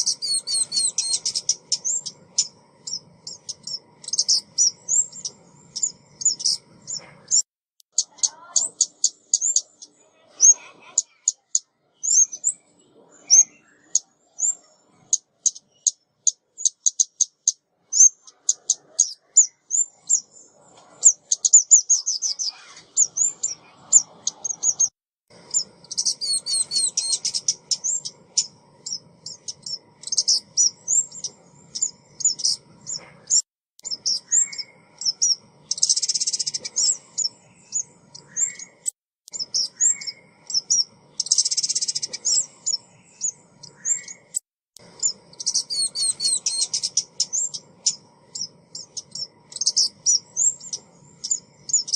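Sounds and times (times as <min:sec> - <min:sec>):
songbird chirping and trilling: 0:00.0 - 0:51.9.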